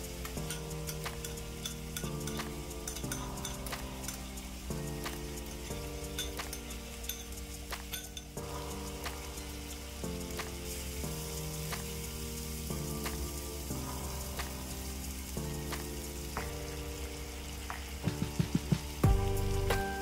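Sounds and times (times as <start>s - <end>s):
sauce sizzling in a wok: 0.0s - 20.0s.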